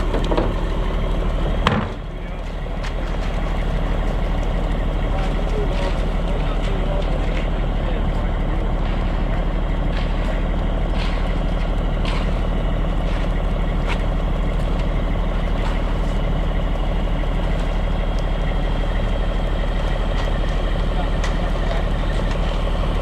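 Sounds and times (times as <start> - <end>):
heavy truck engine running: 0.0 - 23.0.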